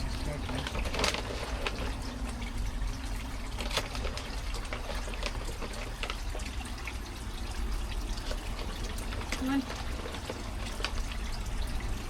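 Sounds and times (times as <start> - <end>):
pond water trickling: 0.0 - 12.0
small water splashes: 0.0 - 12.0.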